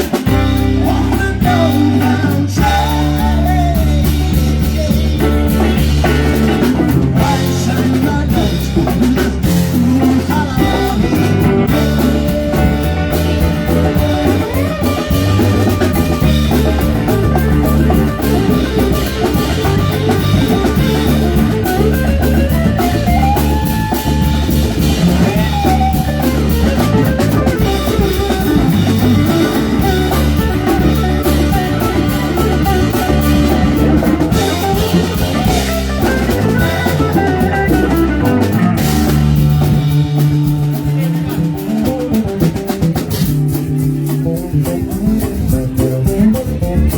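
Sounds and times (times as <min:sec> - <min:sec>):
bass guitar: 0:00.0 - 0:46.9
drum kit: 0:00.0 - 0:46.9
electric guitar: 0:00.0 - 0:46.9.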